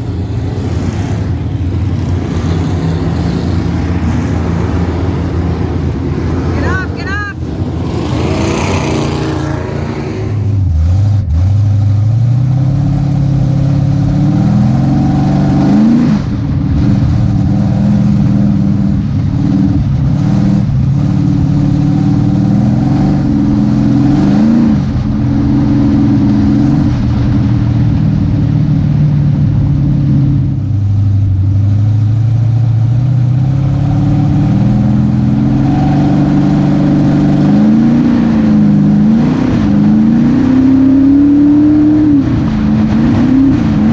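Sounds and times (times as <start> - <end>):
race car engine accelerating: 0.0 - 43.9.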